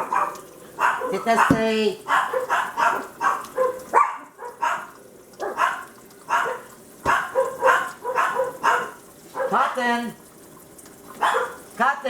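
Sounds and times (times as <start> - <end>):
dog barking: 0.0 - 9.9, 11.2 - 11.7.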